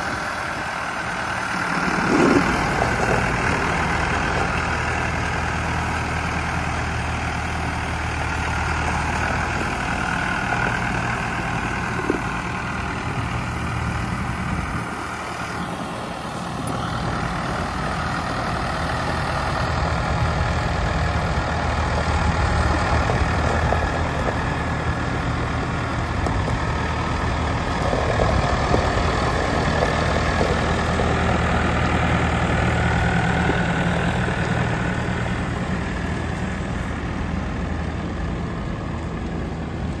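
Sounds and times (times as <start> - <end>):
tractor diesel engine running: 0.0 - 40.0
tyres on gravel: 0.0 - 40.0.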